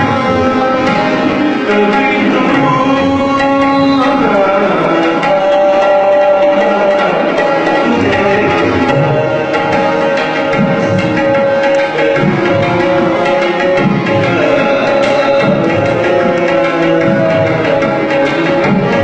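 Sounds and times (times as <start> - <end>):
tabla playing: 0.0 - 19.0.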